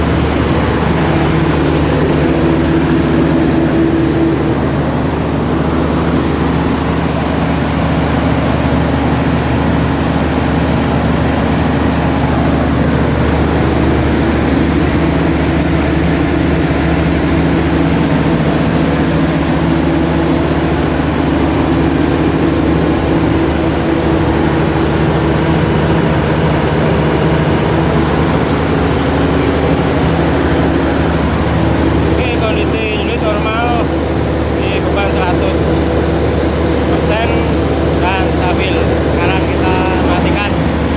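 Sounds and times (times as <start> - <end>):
diesel generator engine drone: 0.0 - 40.9.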